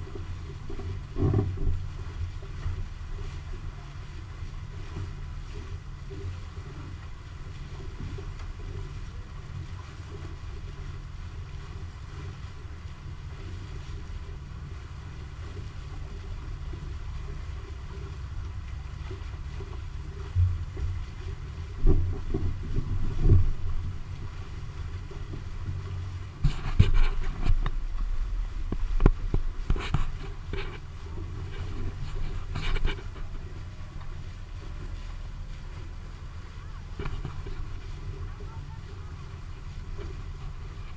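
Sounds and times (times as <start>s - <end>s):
boat engine low rumble: 0.0s - 40.9s
water noise: 0.0s - 40.9s
wind: 0.0s - 40.9s.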